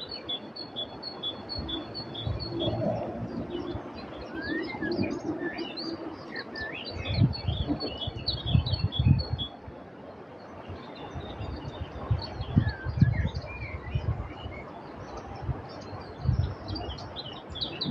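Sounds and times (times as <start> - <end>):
songbirds chirping: 0.0 - 17.9
wind buffeting microphone: 1.5 - 9.8, 10.6 - 17.9.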